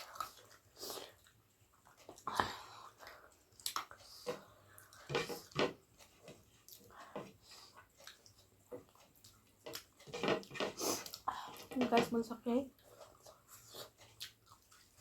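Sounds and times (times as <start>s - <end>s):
wet chewing and smacking: 0.0s - 11.3s, 12.7s - 15.0s.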